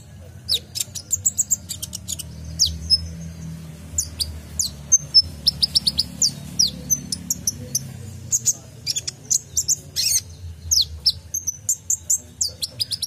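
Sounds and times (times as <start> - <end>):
sunbird chirping: 0.0 - 13.0.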